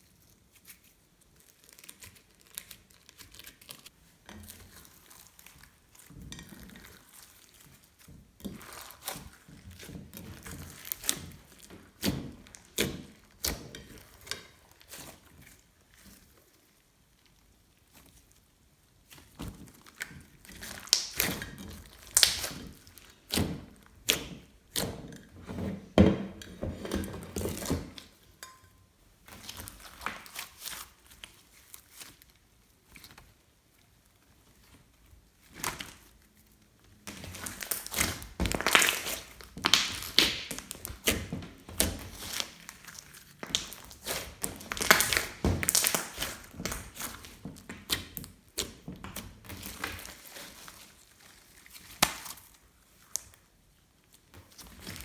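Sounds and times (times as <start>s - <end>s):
slime squelching: 0.3s - 55.0s.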